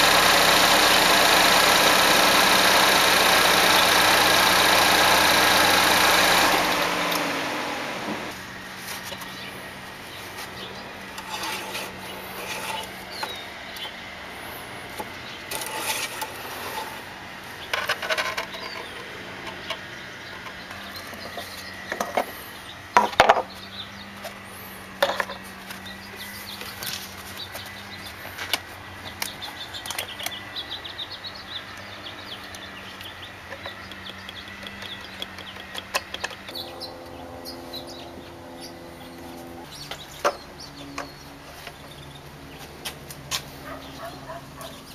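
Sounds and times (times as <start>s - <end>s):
low hum: 0.0s - 43.3s
car engine running: 0.0s - 44.9s
engine winding down: 0.0s - 44.9s
birds chirping: 8.6s - 44.9s.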